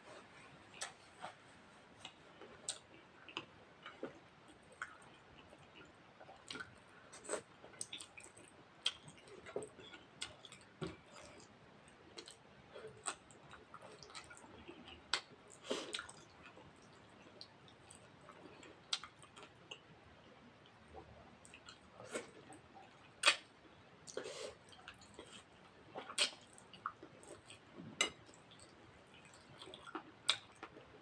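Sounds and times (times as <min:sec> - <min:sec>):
mouth chewing food: 0:02.0 - 0:19.9, 0:20.6 - 0:31.0.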